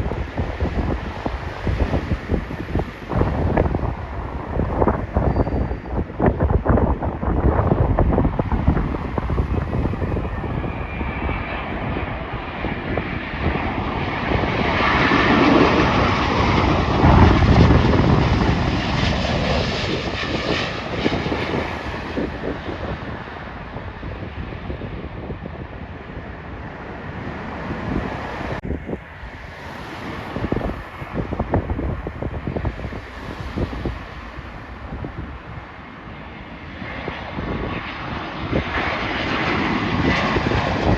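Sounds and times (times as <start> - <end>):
jet airliner flying past: 0.0 - 40.9
wind buffeting microphone: 0.0 - 40.9.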